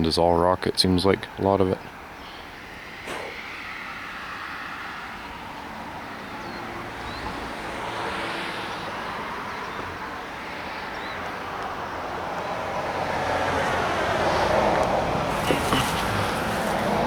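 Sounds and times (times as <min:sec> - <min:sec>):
car road and engine noise: 0:01.1 - 0:17.0.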